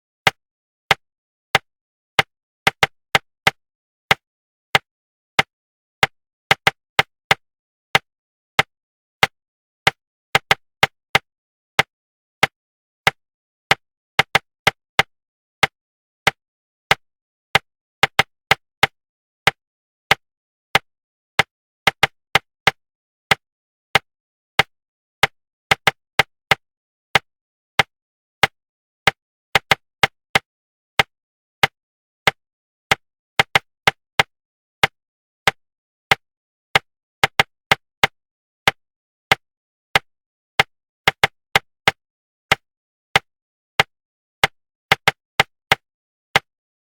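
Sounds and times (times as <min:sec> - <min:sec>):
sharp knocks tapped in rhythm: 0:00.2 - 0:04.2, 0:04.8 - 0:46.5.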